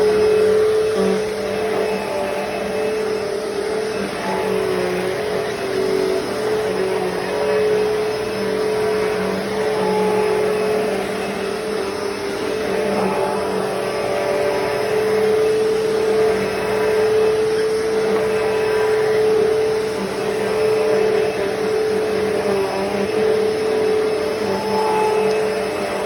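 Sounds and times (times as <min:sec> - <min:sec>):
upright vacuum cleaner running: 0:00.0 - 0:26.0.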